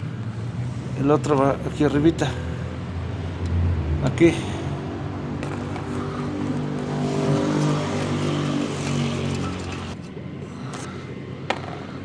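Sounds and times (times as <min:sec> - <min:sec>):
vehicle engine running: 0:00.1 - 0:10.8.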